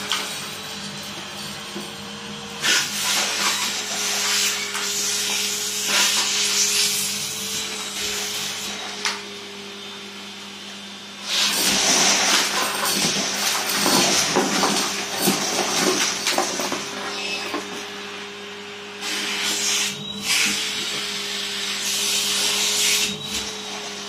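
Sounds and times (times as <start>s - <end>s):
vacuum cleaner humming: 0.0s - 24.0s.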